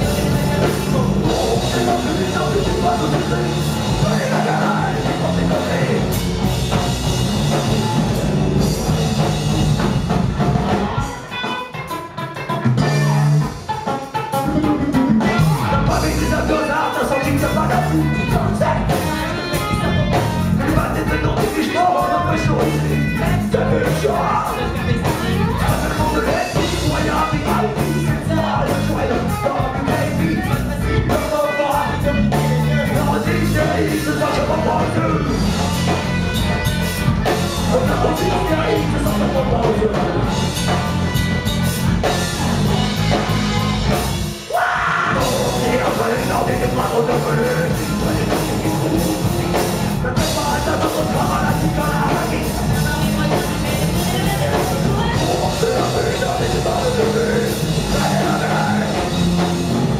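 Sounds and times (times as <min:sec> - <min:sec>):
person singing: 0:00.0 - 0:06.8, 0:10.4 - 0:41.0, 0:42.3 - 0:59.9
drum kit: 0:00.0 - 0:59.9
electric guitars: 0:00.0 - 0:59.9
live rock band playing: 0:00.0 - 0:59.9.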